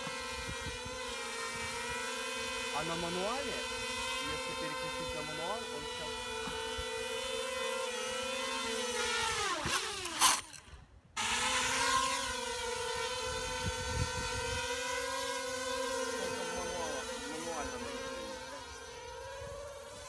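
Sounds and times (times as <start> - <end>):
drone motors buzzing: 0.0 - 20.0.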